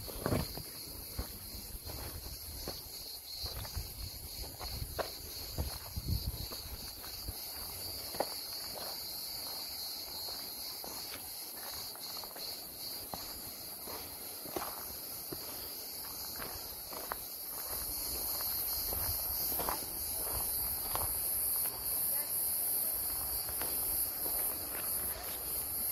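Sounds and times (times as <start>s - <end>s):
footsteps on trail: 0.0s - 25.9s
high-pitched insect chorus: 0.0s - 25.9s.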